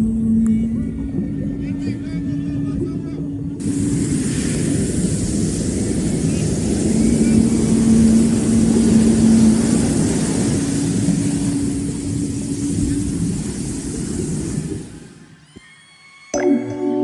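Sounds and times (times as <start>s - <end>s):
low rumbling drone: 0.0s - 15.4s.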